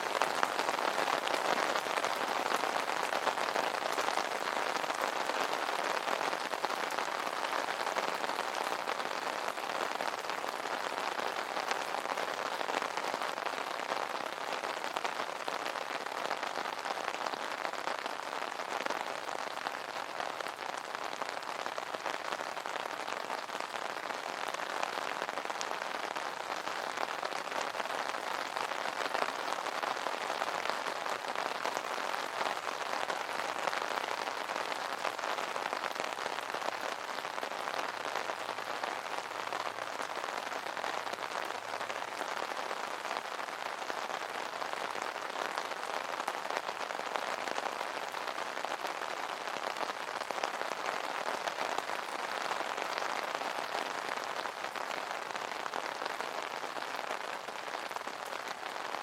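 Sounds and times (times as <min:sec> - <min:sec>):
rain pattering on an umbrella: 0:00.0 - 0:59.0.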